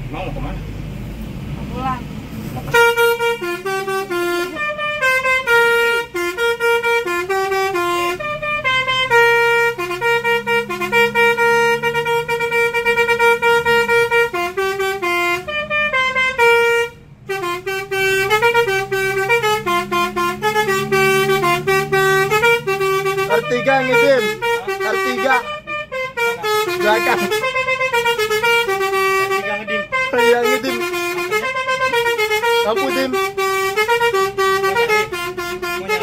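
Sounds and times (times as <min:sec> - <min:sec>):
musical air horn playing a tune: 0:02.7 - 0:36.0.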